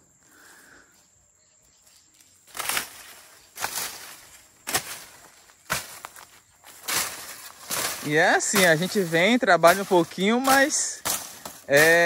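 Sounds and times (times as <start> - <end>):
crunching strokes on dry vegetation: 1.6 - 12.0.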